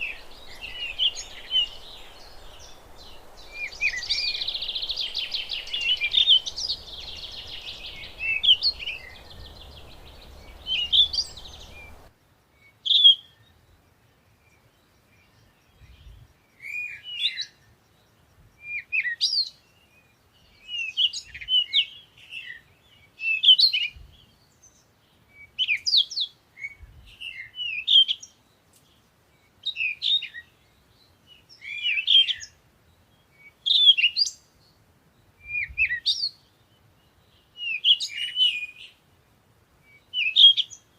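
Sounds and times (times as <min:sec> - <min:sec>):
background hiss: 0:00.0 - 0:40.9
songbird chirping: 0:00.0 - 0:40.9.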